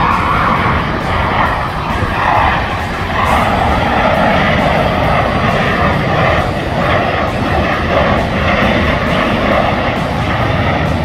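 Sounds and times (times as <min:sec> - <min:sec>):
fighter jets flying overhead: 0:00.0 - 0:11.0.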